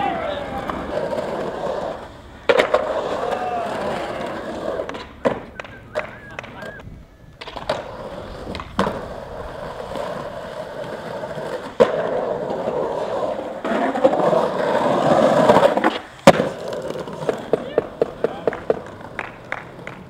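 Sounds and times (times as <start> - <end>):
skateboard knocking on concrete: 0.0 - 20.0
skateboard wheels rolling on concrete: 0.0 - 20.0.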